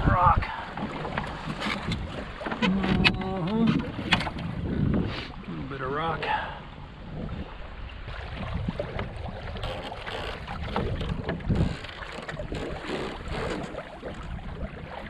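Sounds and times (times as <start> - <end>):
water lapping along hull: 0.0 - 15.0
wind buffeting microphone: 0.0 - 15.0.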